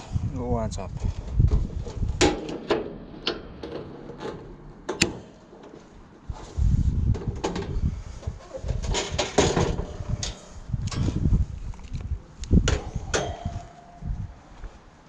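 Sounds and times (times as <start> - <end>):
low rumbling rustle: 0.0 - 15.0.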